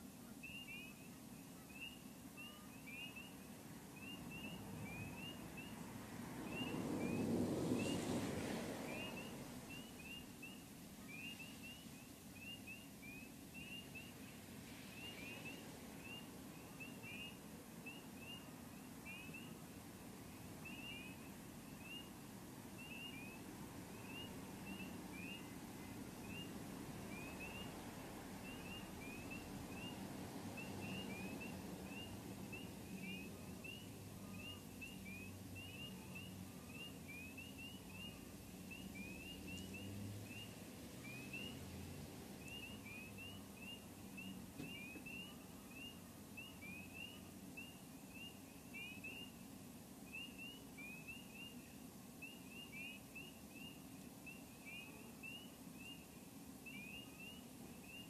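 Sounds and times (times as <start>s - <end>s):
frogs peeping: 0.0s - 58.0s.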